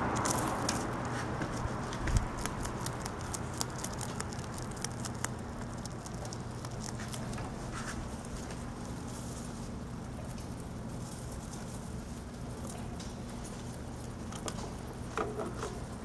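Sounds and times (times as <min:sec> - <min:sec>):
rabbit chewing grass: 0:00.0 - 0:16.0
steady low hum: 0:00.0 - 0:16.0.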